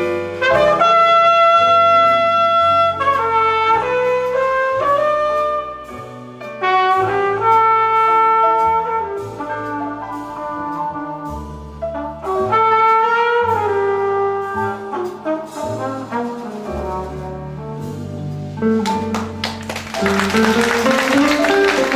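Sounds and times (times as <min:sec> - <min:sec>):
flugelhorn jazz melody: 0:00.0 - 0:21.9
piano accompaniment: 0:00.0 - 0:21.9.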